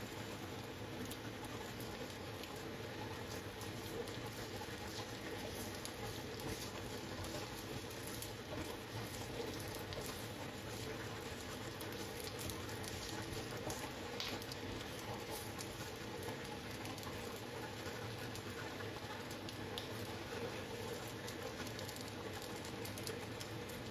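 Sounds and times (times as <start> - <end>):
food sizzling in a pan: 0.0 - 23.8.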